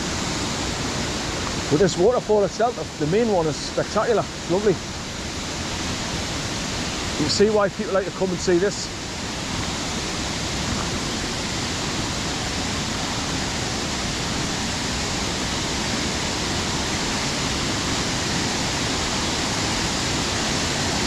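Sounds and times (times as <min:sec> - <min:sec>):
waterfall over rocks: 0:00.0 - 0:21.0.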